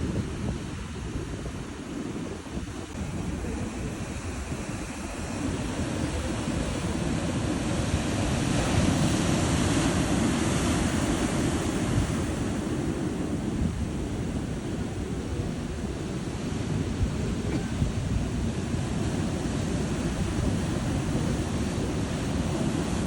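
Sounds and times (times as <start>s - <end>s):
ocean waves washing in: 0.0s - 23.0s.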